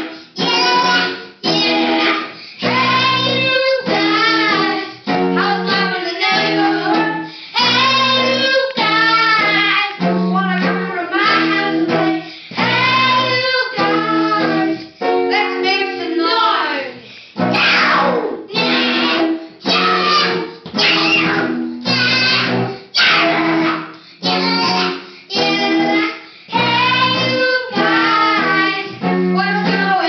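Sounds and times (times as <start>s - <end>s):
strummed electric guitar: 0.0s - 15.7s, 17.4s - 30.0s
children singing rock song: 0.0s - 30.0s.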